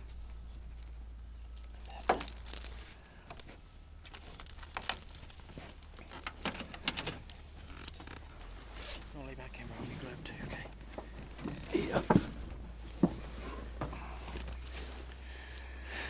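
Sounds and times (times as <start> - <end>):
handling noise rustling and scraping: 0.0 - 15.3.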